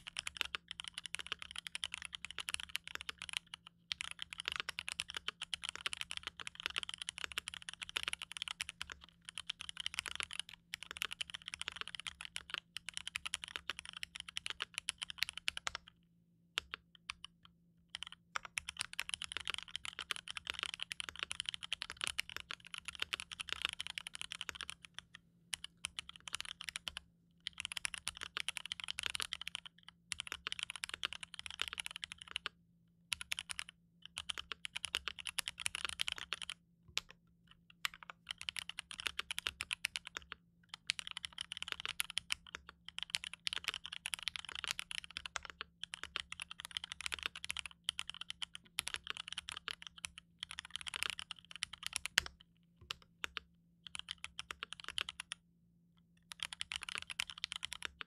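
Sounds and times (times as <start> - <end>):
fast mechanical keyboard typing: 0.0 - 15.9, 17.9 - 55.4, 56.3 - 58.0.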